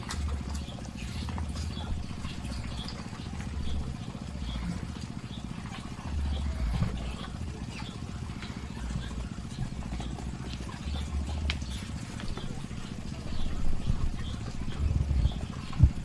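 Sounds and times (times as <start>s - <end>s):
ducks pecking in plastic basin: 0.0s - 16.0s
low rumble: 0.1s - 16.0s.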